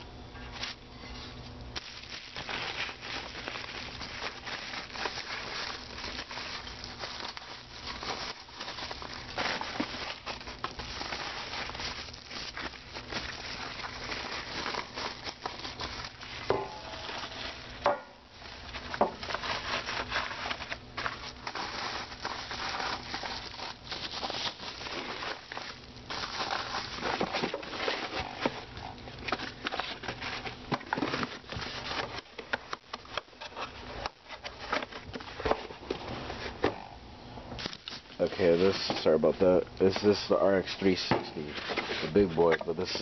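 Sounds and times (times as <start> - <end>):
bubble wrap crinkling: 0.4 - 36.9, 37.6 - 43.0.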